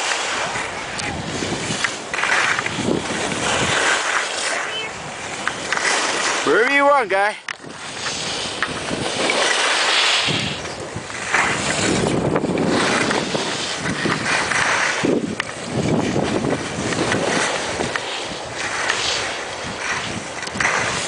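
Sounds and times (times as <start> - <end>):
skis sliding over snow: 0.0 - 21.0
wind rushing over microphone: 0.0 - 21.0.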